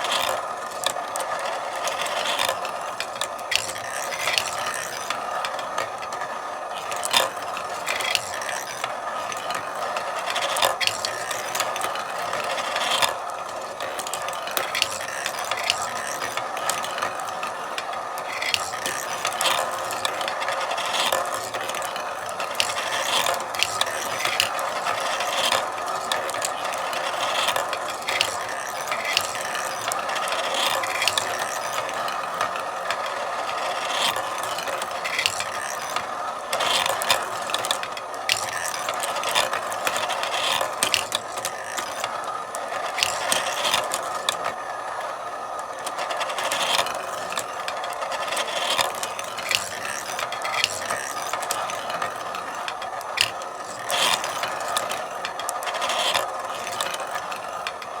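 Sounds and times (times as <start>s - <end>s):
marbles rolling on a track: 0.0s - 58.0s
marbles clicking: 0.1s - 57.9s.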